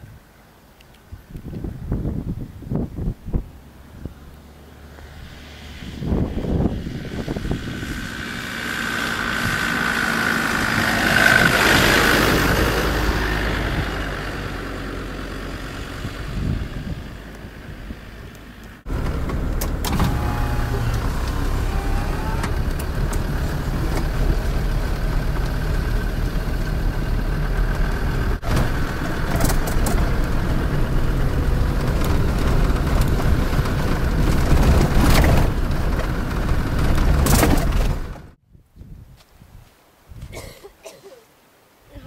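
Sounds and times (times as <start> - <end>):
road noise: 0.0 - 38.4
engine and drivetrain rumble: 1.5 - 38.4.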